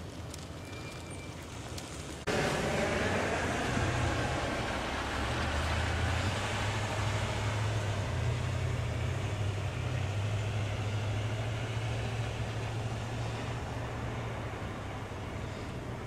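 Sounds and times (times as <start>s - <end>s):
vehicle engine hum: 0.0s - 16.0s
tyres hissing on snow: 0.4s - 16.0s.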